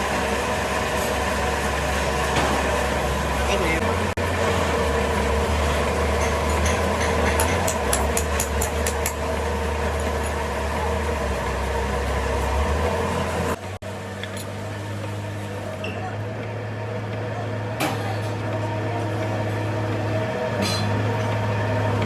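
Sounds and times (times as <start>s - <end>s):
factory machinery humming: 0.0s - 22.0s.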